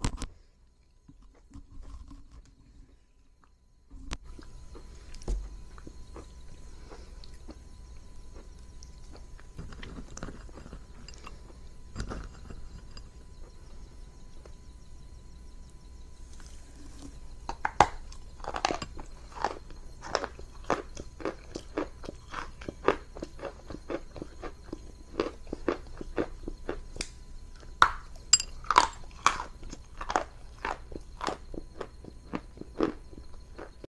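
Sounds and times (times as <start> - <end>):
crunching and chewing chalk: 0.0 - 33.9.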